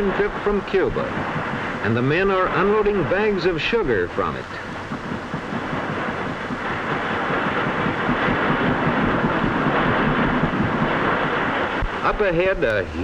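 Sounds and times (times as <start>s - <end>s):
boat rumbling under way: 0.0s - 13.0s.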